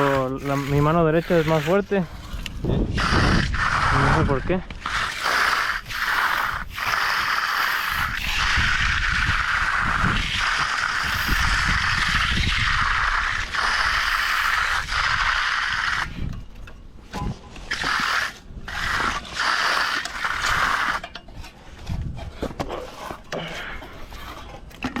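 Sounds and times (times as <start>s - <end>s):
hand tool scraping concrete: 0.0s - 25.0s.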